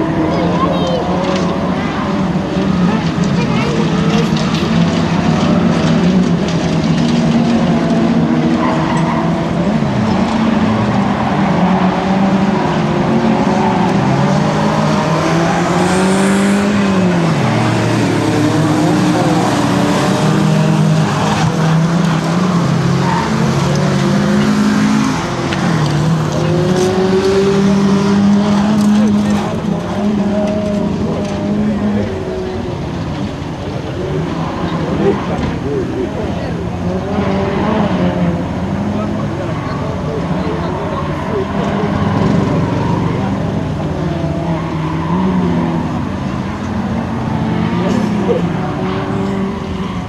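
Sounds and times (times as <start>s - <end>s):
race car engines revving: 0.0s - 50.0s
tyres skidding: 0.0s - 50.0s.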